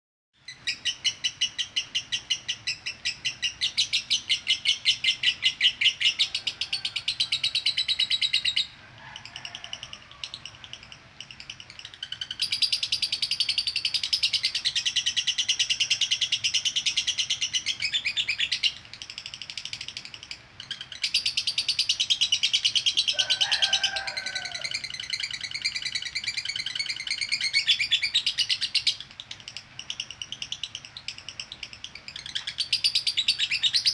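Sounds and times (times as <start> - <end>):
lovebird chattering trill: 0.4 - 33.9.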